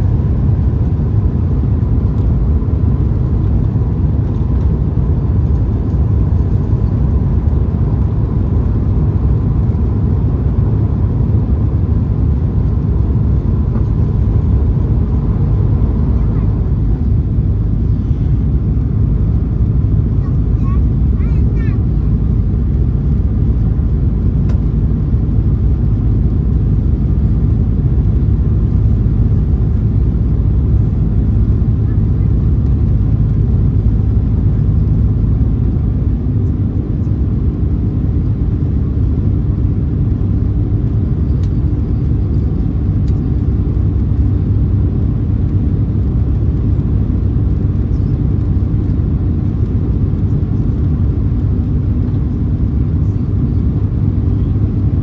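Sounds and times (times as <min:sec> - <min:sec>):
airliner cabin rumble: 0:00.0 - 0:55.0
steady hum: 0:00.0 - 0:55.0.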